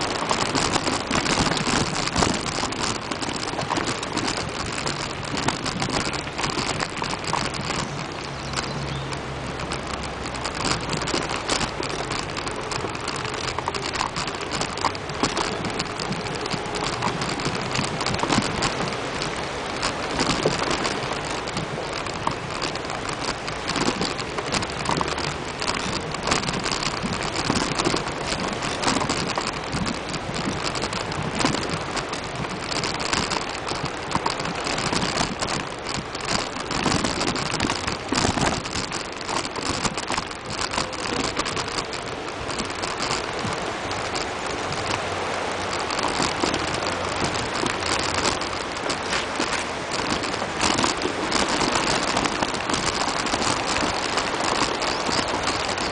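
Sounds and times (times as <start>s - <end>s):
bicycle tyres crunching on gravel: 0.0s - 55.9s
bike rattling over bumps: 0.0s - 55.9s.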